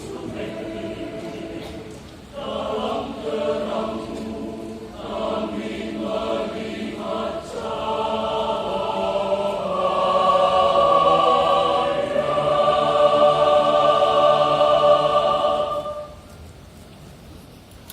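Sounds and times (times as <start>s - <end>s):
choir singing a hymn: 0.0s - 16.3s.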